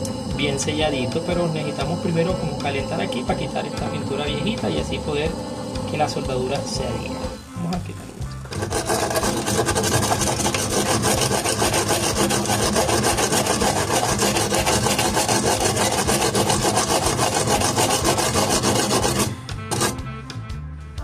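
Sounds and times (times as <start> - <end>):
sandpaper scratching on metal tubing: 0.0 - 7.4, 8.5 - 20.0.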